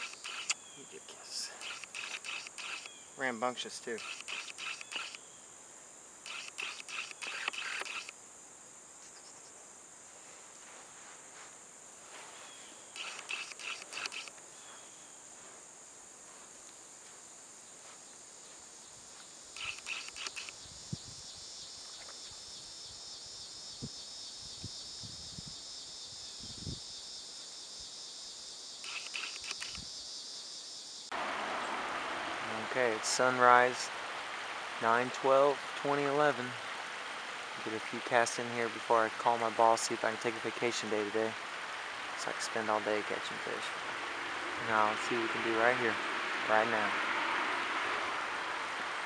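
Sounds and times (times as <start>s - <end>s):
insects droning: 0.0s - 49.0s
insects pulsing chirps: 0.0s - 49.0s.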